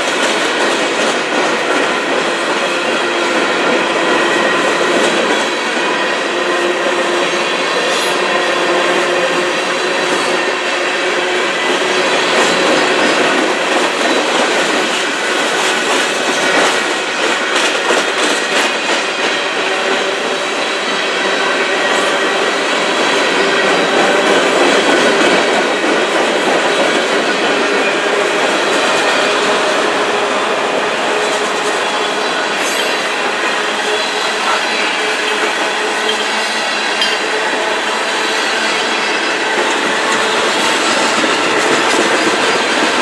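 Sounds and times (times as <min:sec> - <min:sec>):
freight train rolling past: 0:00.0 - 0:43.0.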